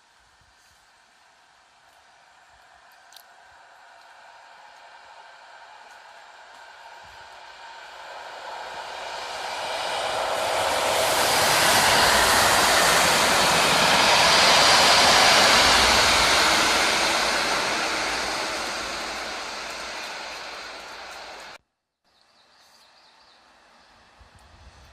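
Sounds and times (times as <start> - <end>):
train passing with rail roar: 0.0 - 21.6.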